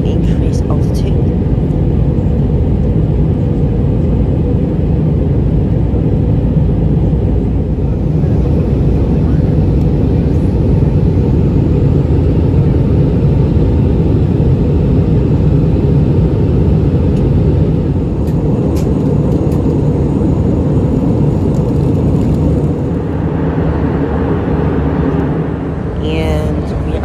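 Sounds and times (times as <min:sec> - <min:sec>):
jet engines and airflow in cabin: 0:00.0 - 0:27.0.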